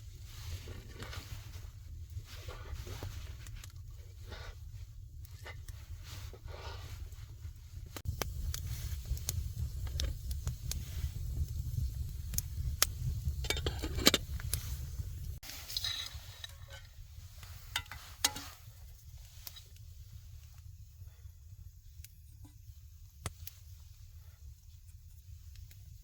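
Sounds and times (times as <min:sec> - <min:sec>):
steady low rumble: 0:00.0 - 0:26.0
sharp crackles and clicks: 0:00.2 - 0:21.0, 0:21.8 - 0:26.0.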